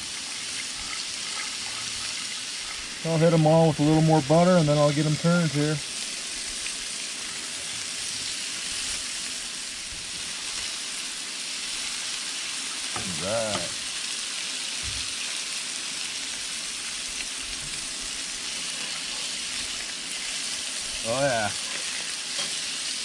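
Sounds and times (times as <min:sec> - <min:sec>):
fish sizzling on a griddle: 0:00.0 - 0:23.0.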